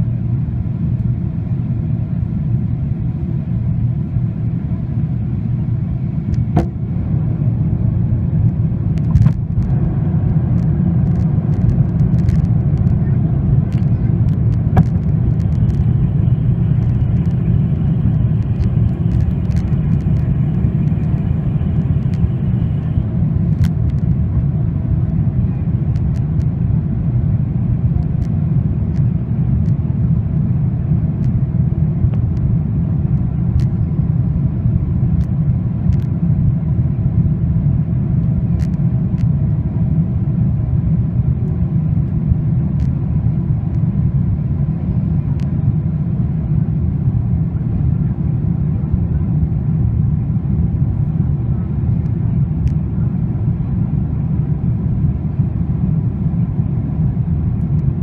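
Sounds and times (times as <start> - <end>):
aircraft cabin engine rumble: 0.0 - 58.0.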